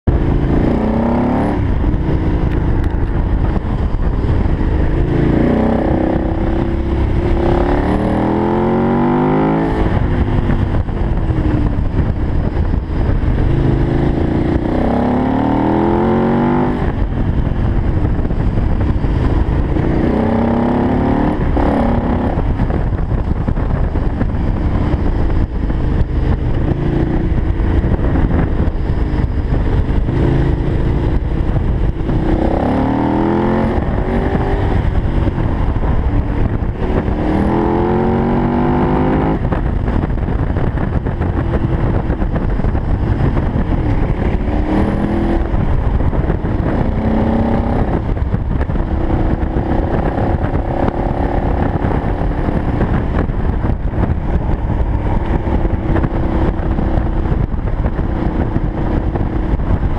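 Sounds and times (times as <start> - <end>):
motorcycle engine accelerating: 0.0 - 59.9
wind rush on microphone: 0.0 - 59.9.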